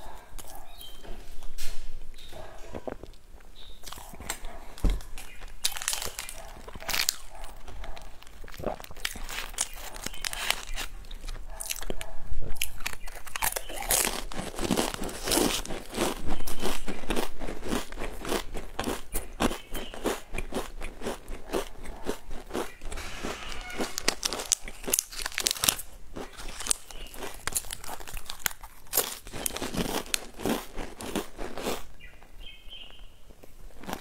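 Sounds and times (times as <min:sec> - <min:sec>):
crunching and chewing snack: 0:00.0 - 0:01.6, 0:02.2 - 0:34.0.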